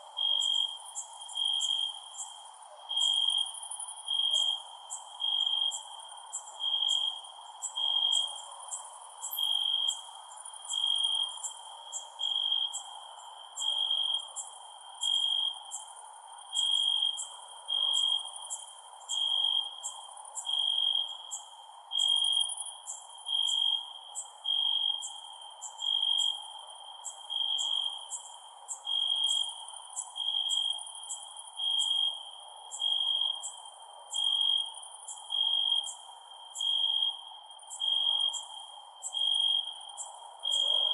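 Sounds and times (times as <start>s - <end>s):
crickets chirping: 0.0s - 40.9s
faint background noise: 0.0s - 40.9s.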